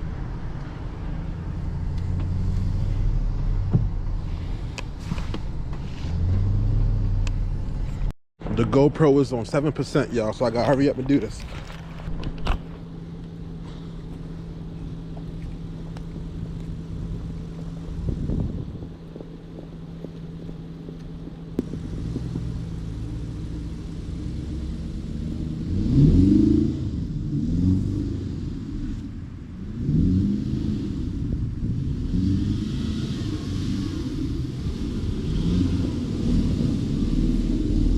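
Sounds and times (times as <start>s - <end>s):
car engine revving: 0.0s - 8.1s, 9.4s - 37.9s.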